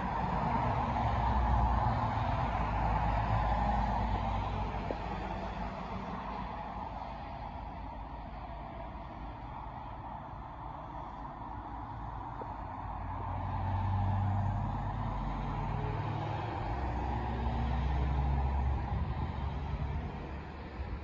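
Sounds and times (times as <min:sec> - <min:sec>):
heavy vehicle engine drone: 0:00.0 - 0:21.0.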